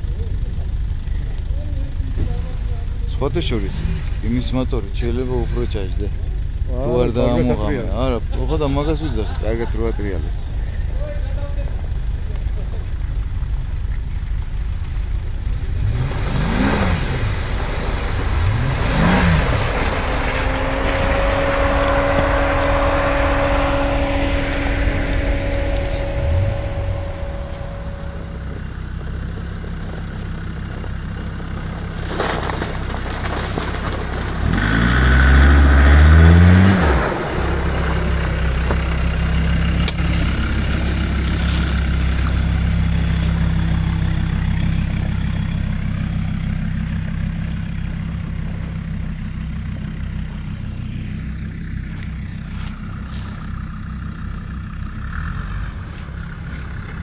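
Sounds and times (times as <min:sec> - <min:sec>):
car engine running and revving: 0:00.0 - 0:11.0, 0:11.6 - 0:57.0.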